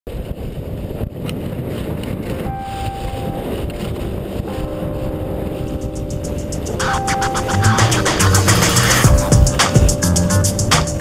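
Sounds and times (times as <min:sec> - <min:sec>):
wind rushing over microphone: 0:00.1 - 0:11.0.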